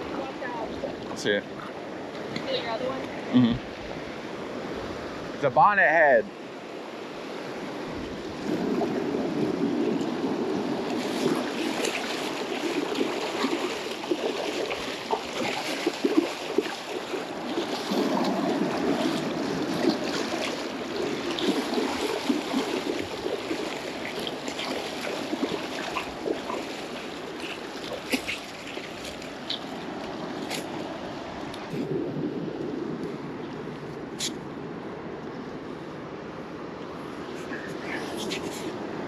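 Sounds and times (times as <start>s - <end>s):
surf washing over sand: 0.0s - 39.0s
wind on microphone: 7.4s - 39.0s.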